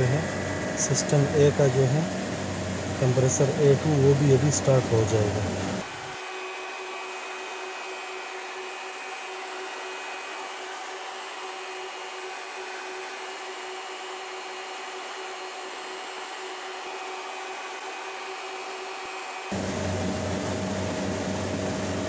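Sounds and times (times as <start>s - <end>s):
chiller whirring hiss: 0.0s - 22.0s.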